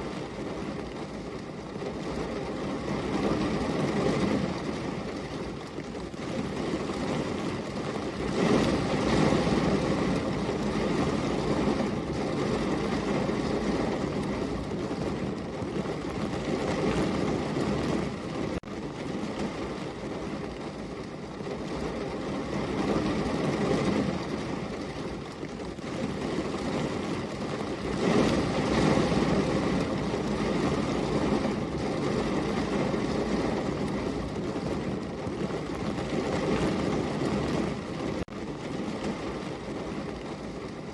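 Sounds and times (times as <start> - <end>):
rain pouring: 0.0 - 40.9.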